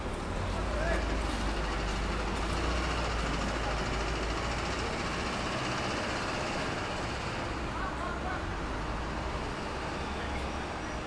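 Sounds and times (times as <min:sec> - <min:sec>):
faint voices of passers-by: 0:00.0 - 0:11.0
road traffic rumble: 0:00.0 - 0:11.0.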